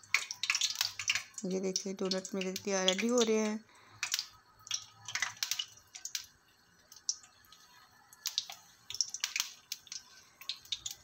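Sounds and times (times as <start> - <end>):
faint frying sizzle: 0.0 - 11.0
oil popping and crackling: 0.0 - 11.0.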